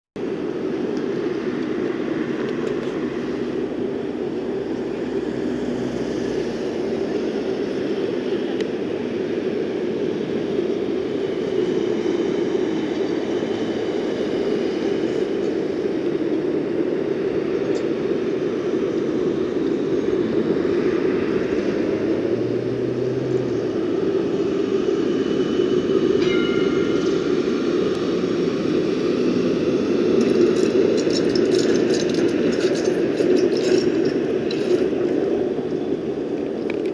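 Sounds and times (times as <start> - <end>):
city road traffic: 0.2 - 36.9
tram running on street tracks: 0.2 - 36.9.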